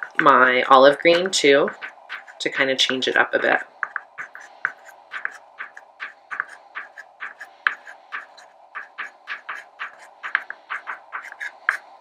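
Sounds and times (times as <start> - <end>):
pastel scratching on paper: 0.0 - 11.9
faint steady hum: 0.0 - 12.0.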